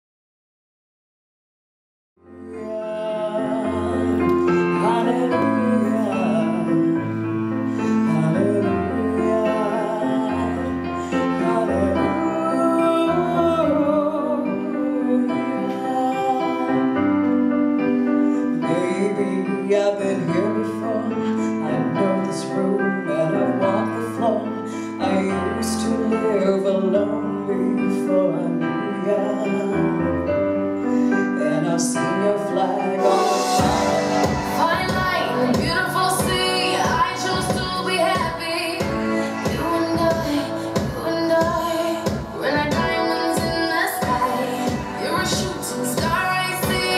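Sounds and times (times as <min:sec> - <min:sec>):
piano accompaniment: 0:02.2 - 0:46.9
woman singing into microphone: 0:02.4 - 0:17.4, 0:18.0 - 0:30.3, 0:30.9 - 0:46.9.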